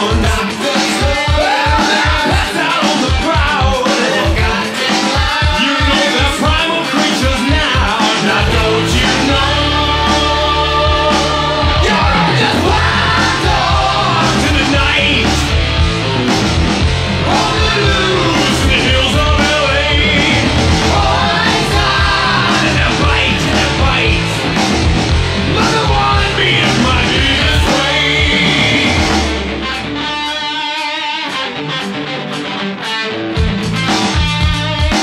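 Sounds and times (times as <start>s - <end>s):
bass: 0.0s - 30.8s, 31.5s - 35.0s
drums: 0.0s - 35.0s
hard rock music: 0.0s - 35.0s.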